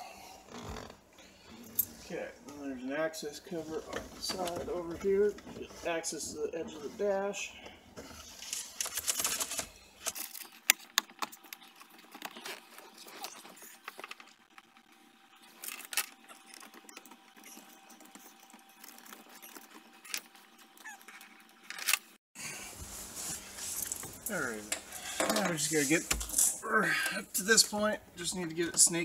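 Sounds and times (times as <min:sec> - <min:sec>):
rustling of plastic trim and wiring: 0:03.4 - 0:22.1, 0:22.8 - 0:27.8.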